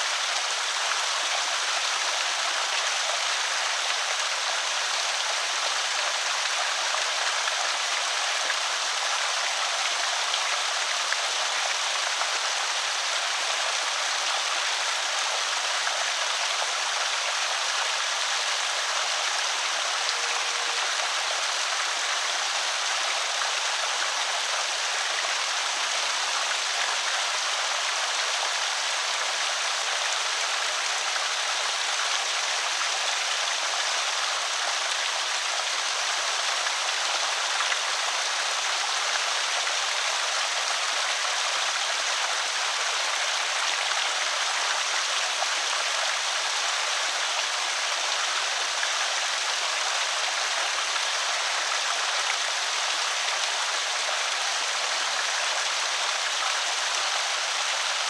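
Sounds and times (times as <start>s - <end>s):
water pouring over spillway: 0.0s - 58.0s.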